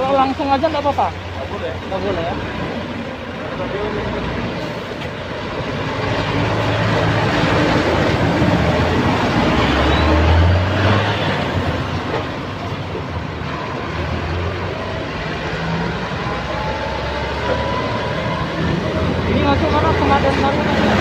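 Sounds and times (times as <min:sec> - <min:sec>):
dump truck passing on wet road: 0:00.0 - 0:21.0.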